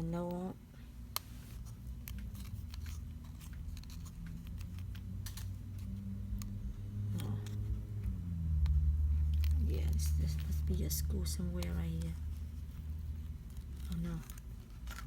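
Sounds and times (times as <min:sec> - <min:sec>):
low steady hum: 0:00.0 - 0:15.0
plastic parts clicking and crackling: 0:01.1 - 0:15.0.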